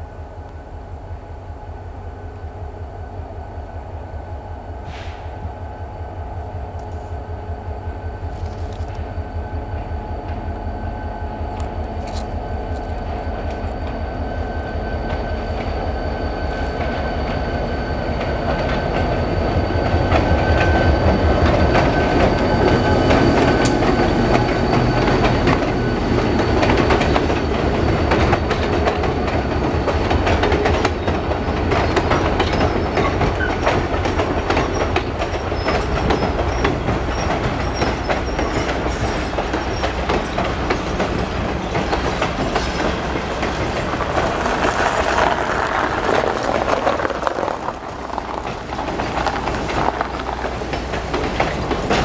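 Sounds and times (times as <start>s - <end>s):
train coaches rumbling over rails: 0.0s - 52.0s.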